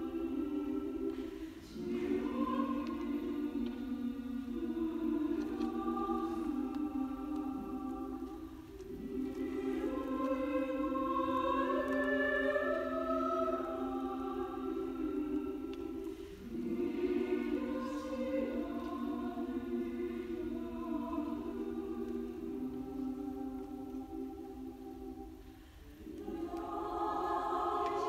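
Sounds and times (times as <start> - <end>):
women's choir singing: 0.0 - 28.0.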